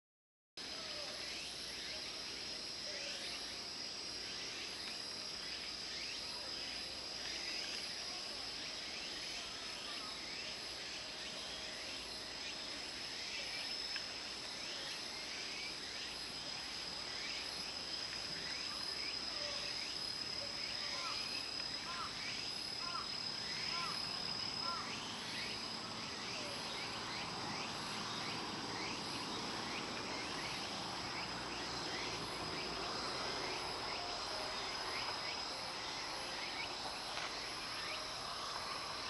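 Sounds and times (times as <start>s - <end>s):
cicadas chorus chirping: 0.6s - 39.0s.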